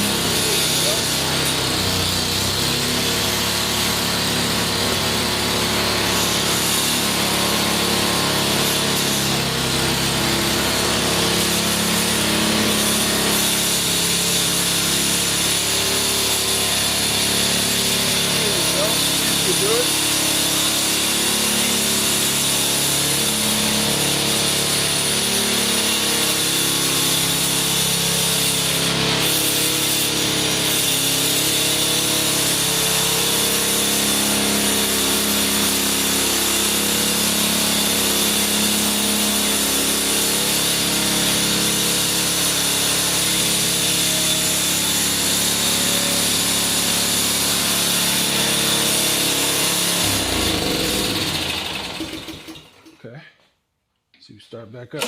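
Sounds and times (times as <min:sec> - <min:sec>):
snowblower engine running: 0:00.0 - 0:52.9.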